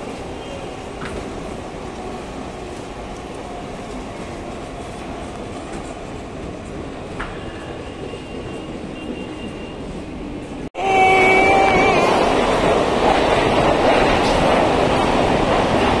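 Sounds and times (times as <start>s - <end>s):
train running past on tracks: 0.0s - 16.0s.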